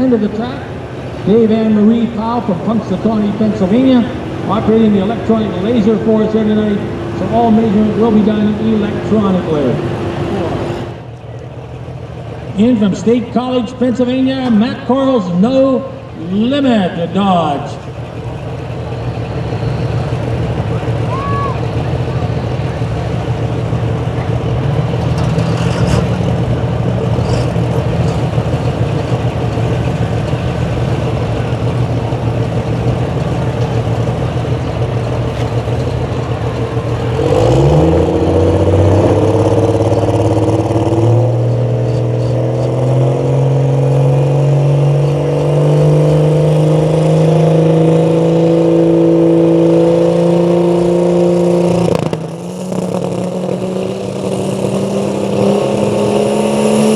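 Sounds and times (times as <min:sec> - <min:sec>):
truck engine revving: 0:00.0 - 0:56.9.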